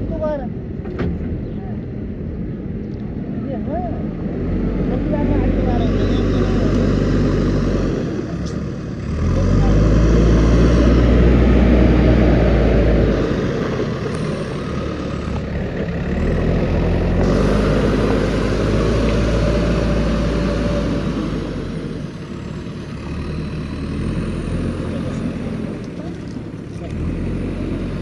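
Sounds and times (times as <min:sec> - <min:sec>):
backhoe diesel engine running: 0:04.0 - 0:28.0.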